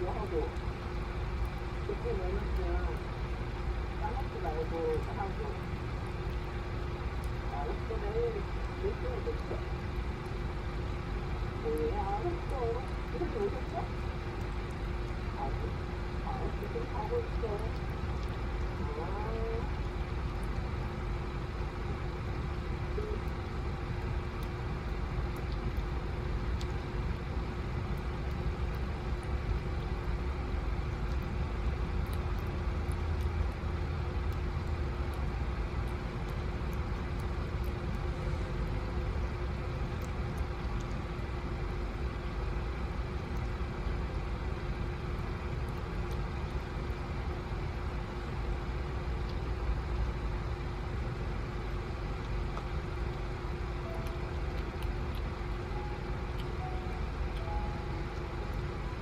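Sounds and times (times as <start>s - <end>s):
cat licking and chewing food: 0.0s - 59.0s
low mechanical drone: 0.0s - 59.0s.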